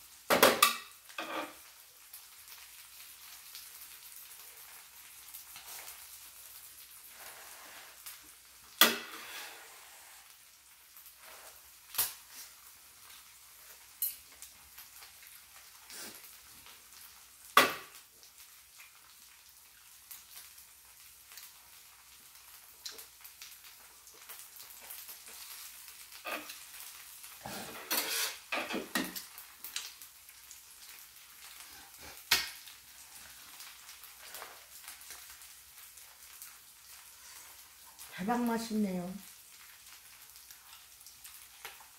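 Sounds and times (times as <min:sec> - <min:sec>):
pancake sizzling on a griddle: 0:00.0 - 0:41.9.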